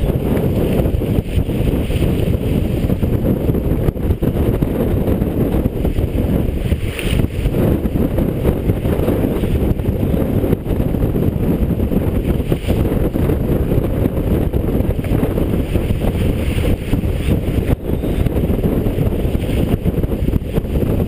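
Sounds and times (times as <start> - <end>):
water rushing along a hull: 0.0 - 21.0
wind buffeting microphone: 0.0 - 21.0.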